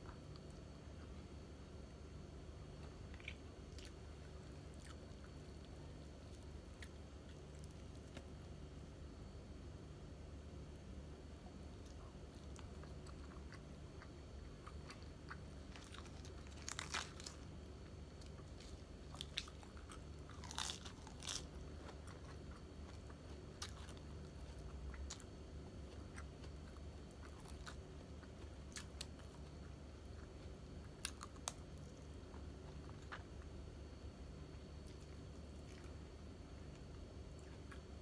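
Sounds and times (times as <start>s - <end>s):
chewing and crunching food: 0.0s - 1.4s, 2.6s - 9.3s, 10.7s - 38.0s
faint low hum: 0.0s - 38.0s.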